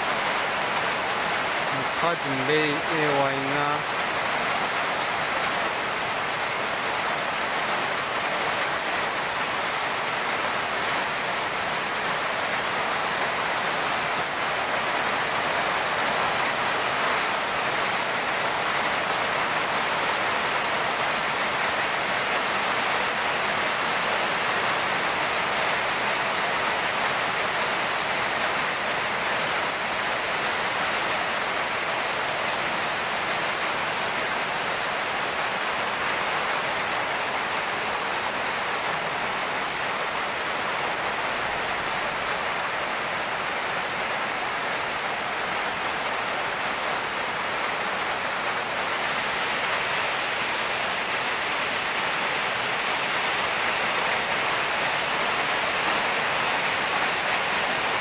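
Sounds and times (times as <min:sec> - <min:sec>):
rain on foliage: 0:00.0 - 0:58.0.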